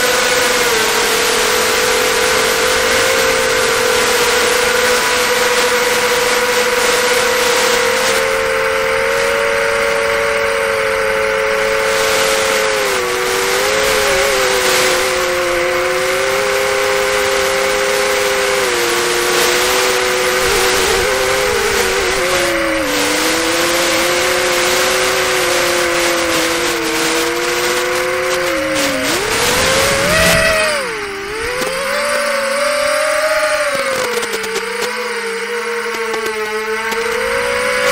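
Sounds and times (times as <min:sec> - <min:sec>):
drone motors whining: 0:00.0 - 0:37.9.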